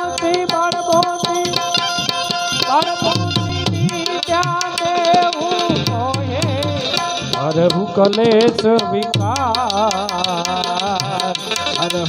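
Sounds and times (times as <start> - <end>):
hand drum rhythm: 0.0 - 12.0
harmonium melody: 0.0 - 12.0.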